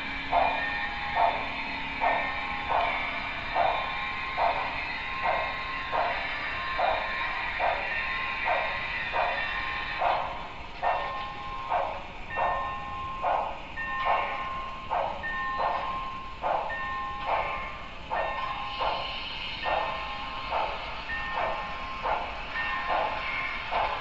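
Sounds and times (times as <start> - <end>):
constant hiss: 0.0 - 24.0
model steam locomotive chuffing: 0.0 - 24.0.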